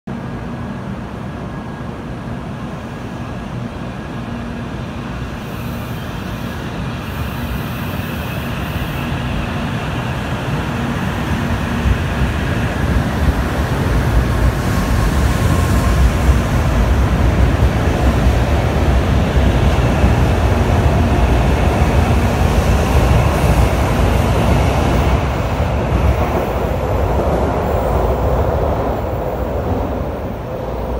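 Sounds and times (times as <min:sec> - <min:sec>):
train wheels rumbling: 0:05.4 - 0:30.9.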